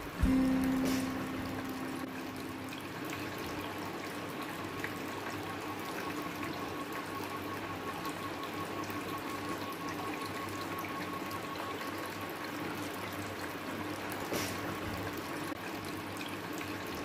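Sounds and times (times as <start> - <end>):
faint steady hum: 0.0 - 14.1.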